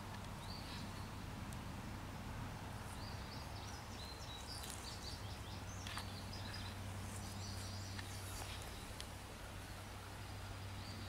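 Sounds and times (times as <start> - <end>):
birds chirping: 0.0 - 1.3, 2.7 - 11.0.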